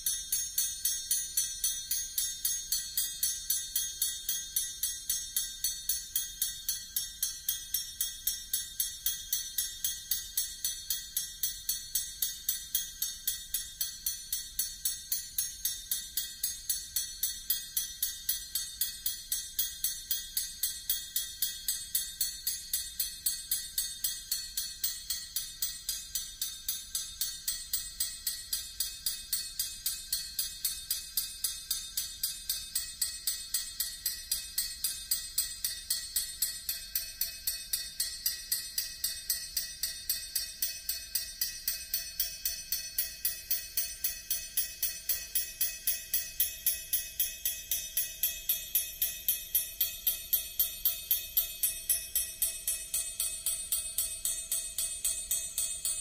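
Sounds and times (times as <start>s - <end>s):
metal triangle tapped rapidly: 0.0s - 56.0s.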